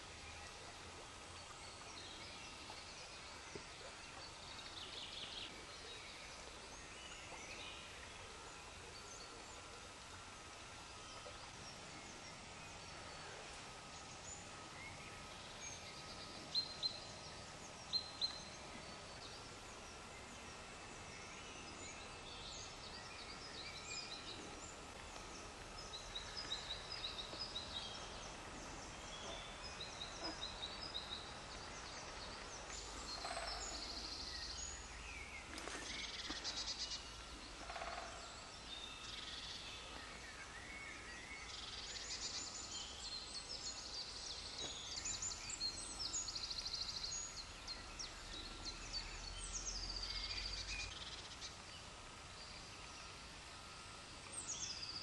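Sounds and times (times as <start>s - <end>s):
faint low rumble: 0.0s - 55.0s
songbirds chirping and trilling: 0.0s - 55.0s.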